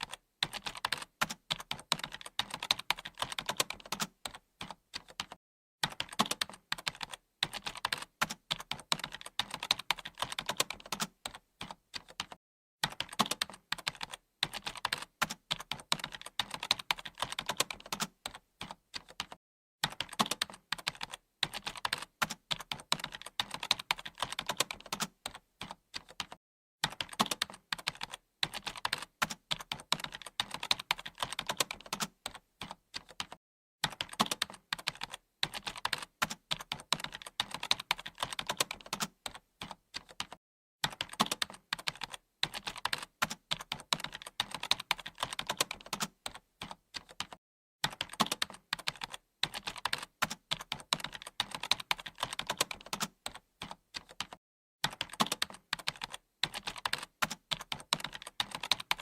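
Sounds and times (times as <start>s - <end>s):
typing on keyboard: 0.0s - 59.0s.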